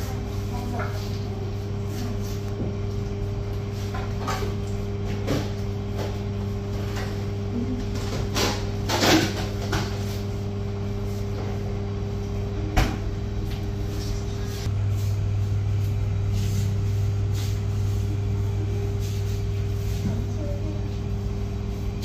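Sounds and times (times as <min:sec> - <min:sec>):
electrical hum of kitchen equipment: 0:00.0 - 0:22.0.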